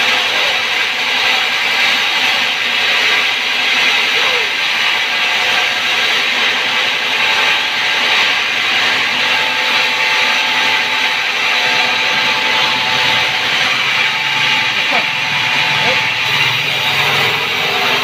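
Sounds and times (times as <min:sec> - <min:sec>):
band saw cutting log: 0:00.0 - 0:18.0.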